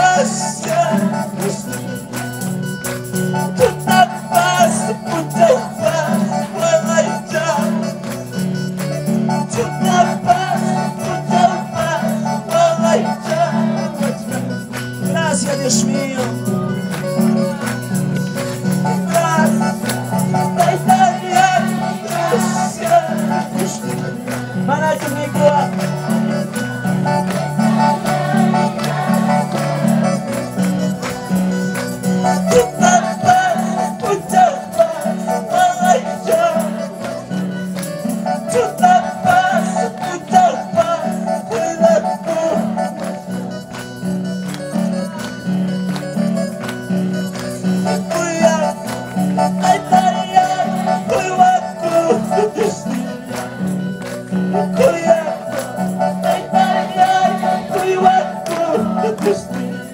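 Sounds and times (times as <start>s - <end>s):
person singing: 0.0s - 8.6s, 9.2s - 46.9s, 47.5s - 59.9s
steady percussion rhythm: 0.0s - 59.9s.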